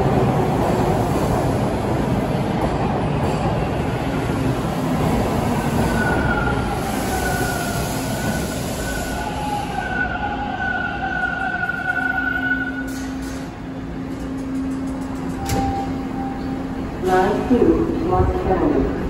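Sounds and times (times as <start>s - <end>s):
high whine of decelerating train: 0.0s - 19.0s
subway train rumbling on rails: 0.0s - 19.0s.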